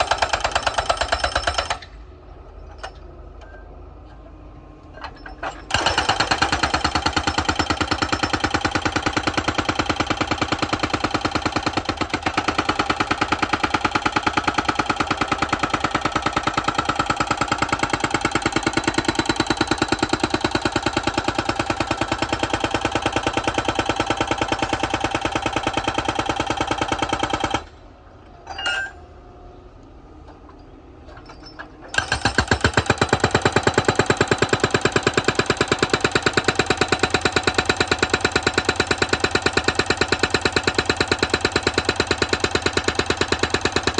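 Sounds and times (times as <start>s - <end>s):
hydraulic breaker pounding asphalt: 5.1s - 27.7s, 31.1s - 43.9s.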